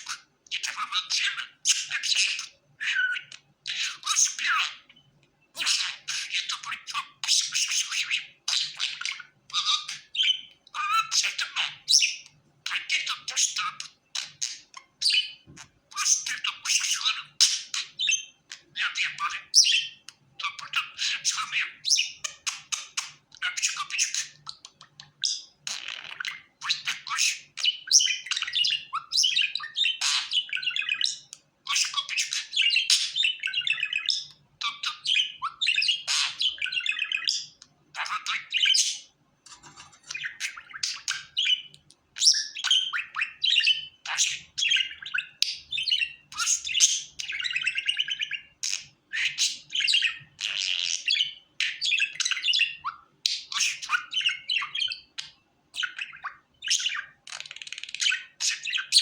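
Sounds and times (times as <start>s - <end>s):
budgerigar chirping and squawking: 0.0s - 59.0s.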